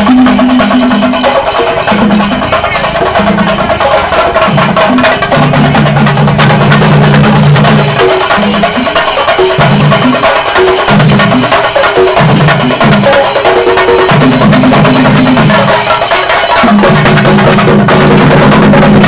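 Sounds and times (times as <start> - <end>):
drums beaten with sticks: 0.0 - 19.0.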